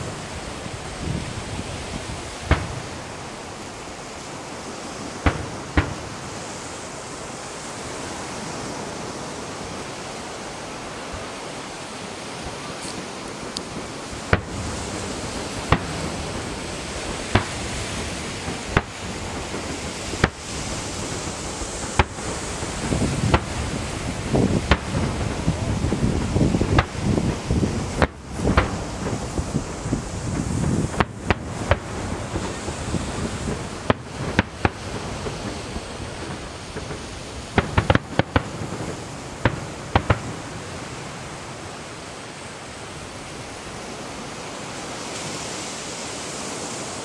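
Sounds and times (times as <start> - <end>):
fireworks bangs: 0.0 - 45.4
steady rushing noise: 0.0 - 47.0.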